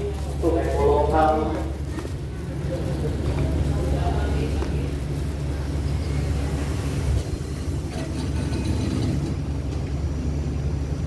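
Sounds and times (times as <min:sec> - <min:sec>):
diesel train idling: 0:00.0 - 0:11.0.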